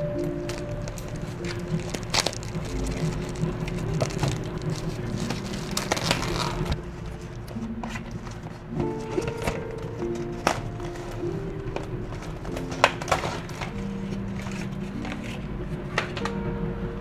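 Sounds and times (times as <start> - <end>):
handling clicks and knocks: 0.0 - 16.5
faint background music: 0.0 - 17.0.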